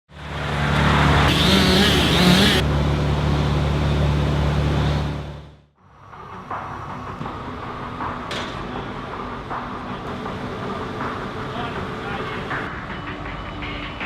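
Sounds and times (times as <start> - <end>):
heavy engine running: 0.1 - 14.0.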